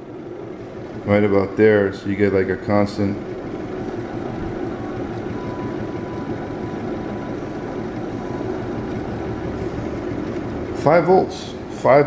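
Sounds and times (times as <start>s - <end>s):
motor pulsing hum: 0.0s - 12.0s.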